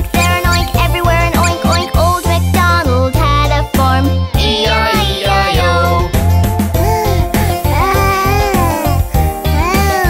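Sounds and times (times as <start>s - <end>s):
upbeat children's song: 0.0s - 10.0s.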